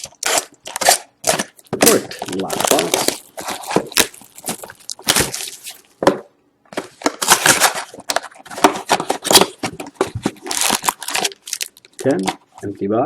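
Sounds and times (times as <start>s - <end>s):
wrapper crinkling and ripping: 0.0s - 6.0s, 7.0s - 12.7s
cardboard handled: 0.0s - 12.7s.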